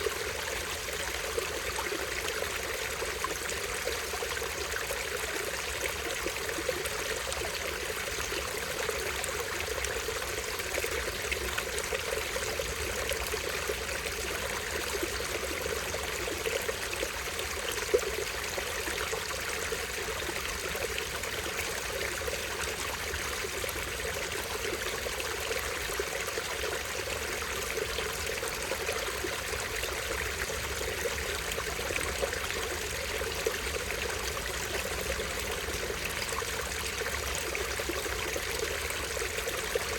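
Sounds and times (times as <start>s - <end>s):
stream trickling over small waterfall: 0.0s - 39.9s.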